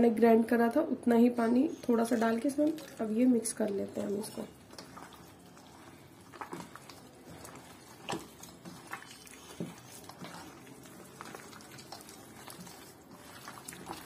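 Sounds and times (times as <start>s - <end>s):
wet squelches of kneading batter: 0.5s - 14.0s.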